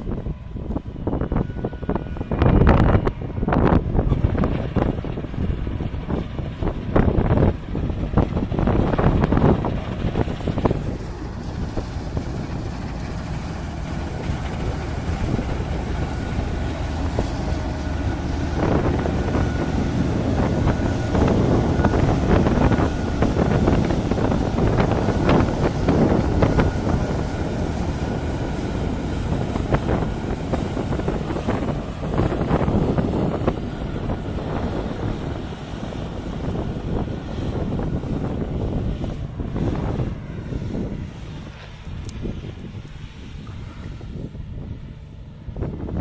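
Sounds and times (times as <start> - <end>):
heavy machinery engine: 0.0 - 45.9
thin steady whine: 0.0 - 46.0
wind buffeting microphone: 0.0 - 46.0.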